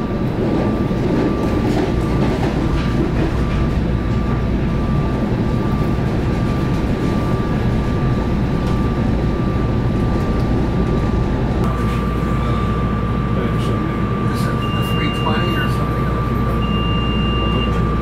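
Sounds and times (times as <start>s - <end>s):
train wheels rumbling on rail: 0.0s - 16.8s.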